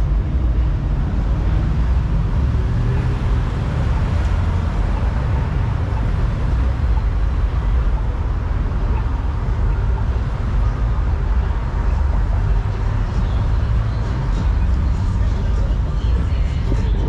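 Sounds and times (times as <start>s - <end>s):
cars driving slowly: 0.0s - 17.0s.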